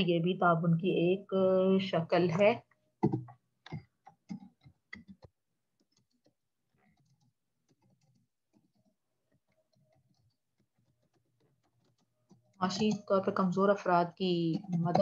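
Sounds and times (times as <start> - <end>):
computer keyboard typing: 2.3 - 15.0.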